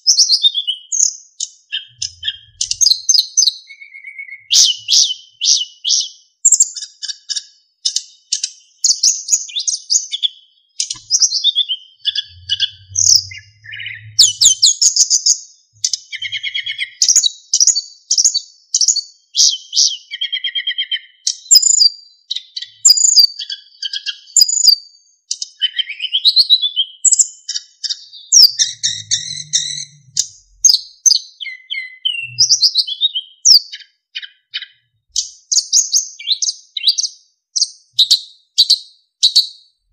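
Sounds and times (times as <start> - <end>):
bird singing chirps and whistles: 0.0 - 39.7.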